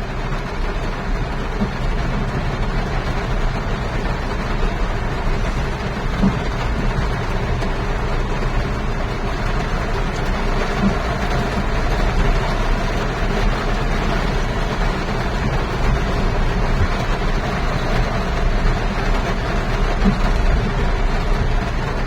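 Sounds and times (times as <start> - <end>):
car running: 0.0 - 22.0
heavy rain: 0.0 - 22.0.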